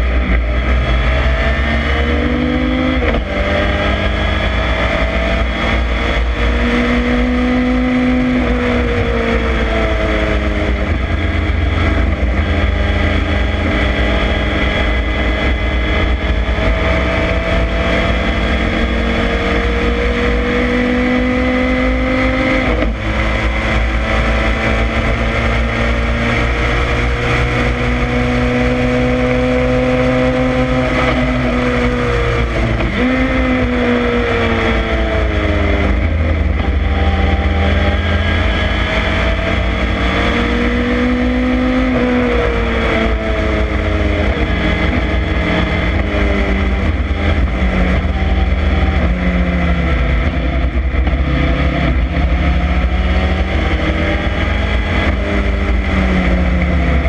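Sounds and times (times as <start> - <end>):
race car engine pulling hard: 0.0 - 57.0.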